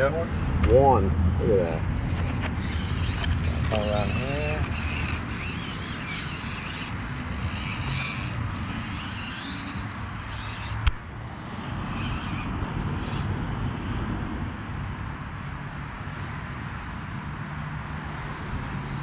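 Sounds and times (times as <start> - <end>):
small electric motor and gears: 0.0 - 19.0.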